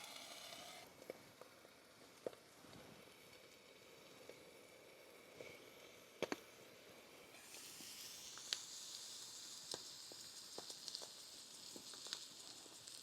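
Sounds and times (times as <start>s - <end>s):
food sizzling in a pan: 0.0s - 0.9s, 1.8s - 13.0s.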